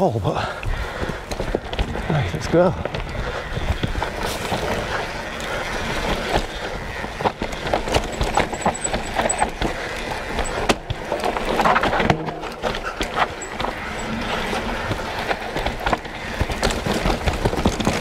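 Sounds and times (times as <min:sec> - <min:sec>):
bike tyres rolling on dirt: 0:00.0 - 0:18.0
bike rattling over bumps: 0:00.6 - 0:18.0.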